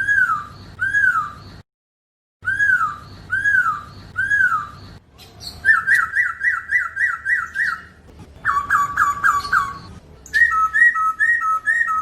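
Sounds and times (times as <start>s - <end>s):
bird whistling call: 0.0s - 1.5s, 2.4s - 4.8s, 5.6s - 12.0s.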